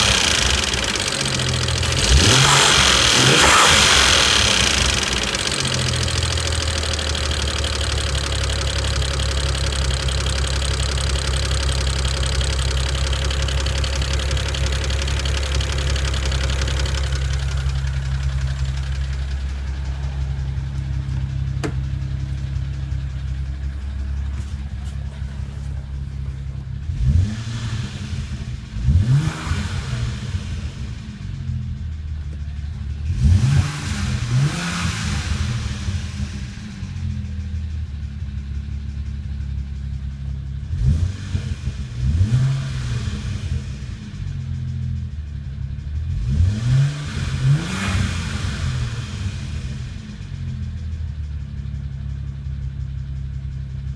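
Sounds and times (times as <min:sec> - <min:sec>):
car engine idling and revving: 0:00.0 - 0:53.9
loud fast engine ticking: 0:00.0 - 0:53.9.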